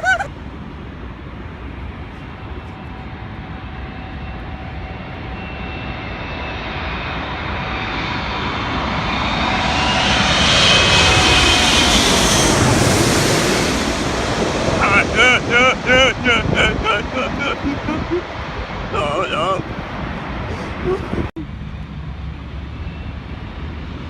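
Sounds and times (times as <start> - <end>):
jet airliner flying over: 0.0 - 24.0.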